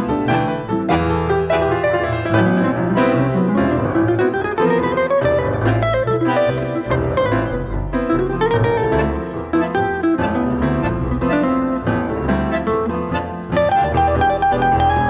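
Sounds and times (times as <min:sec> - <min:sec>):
double bass line: 0:00.0 - 0:15.0
quick piano notes: 0:00.0 - 0:15.0.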